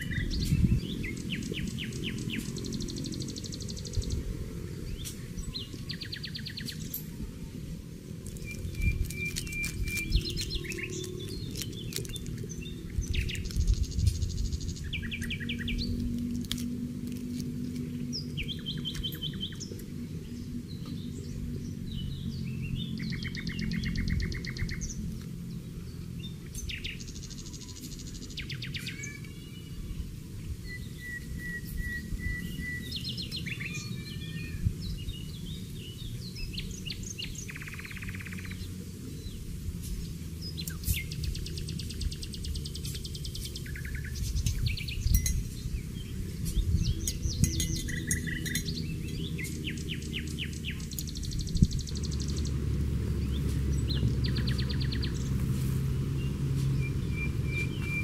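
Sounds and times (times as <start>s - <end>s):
birds chirping and singing: 0.0s - 58.0s
low outdoor rumble: 0.0s - 58.0s.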